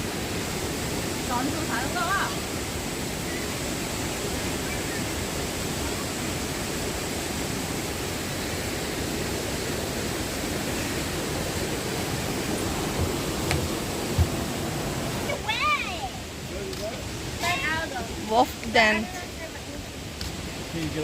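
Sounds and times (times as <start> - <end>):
rushing stream water: 0.0 - 21.0.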